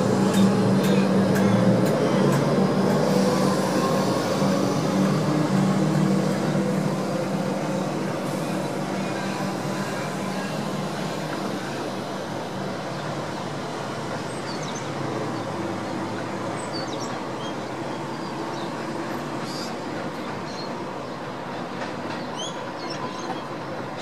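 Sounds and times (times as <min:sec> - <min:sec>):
electric train rumble and hum: 0:00.0 - 0:24.0.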